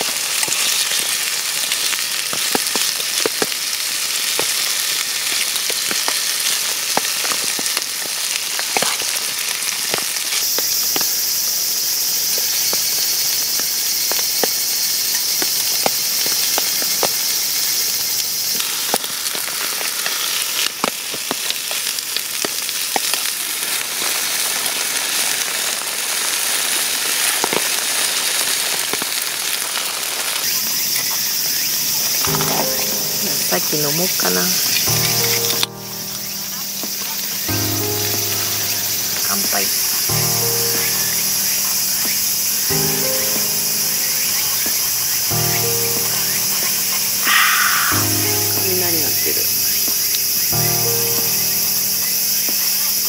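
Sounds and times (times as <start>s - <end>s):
chicken sizzling in a pan: 0.0s - 53.0s.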